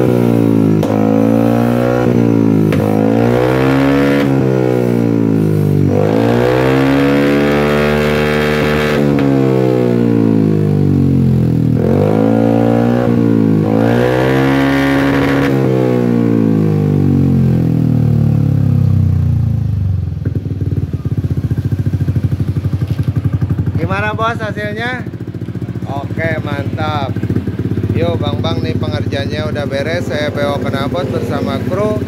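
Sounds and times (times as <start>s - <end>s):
scooter engine revving: 0.0s - 32.0s.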